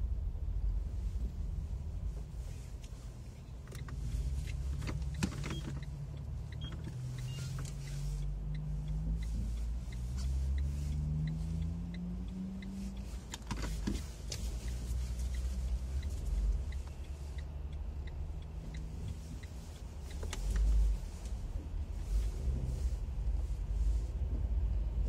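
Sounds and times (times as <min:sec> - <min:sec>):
car engine accelerating: 0:00.0 - 0:25.0
road rumble: 0:00.0 - 0:25.0
faint regular ticking: 0:01.3 - 0:23.4.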